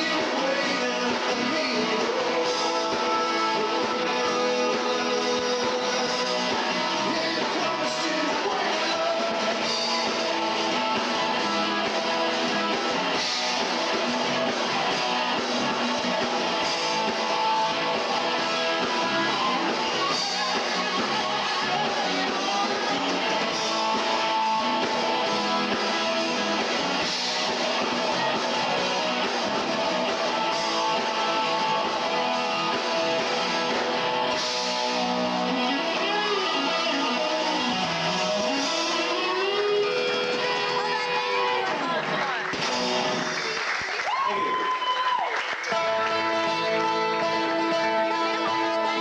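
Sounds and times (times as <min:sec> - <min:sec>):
strummed guitars: 0:00.0 - 0:43.4, 0:45.7 - 0:49.0
live rock band playing: 0:00.0 - 0:44.2, 0:45.7 - 0:49.0.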